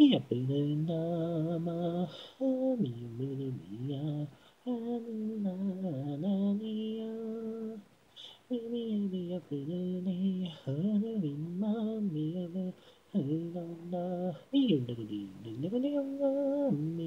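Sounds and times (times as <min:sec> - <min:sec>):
person singing a cappella: 0:00.0 - 0:17.0.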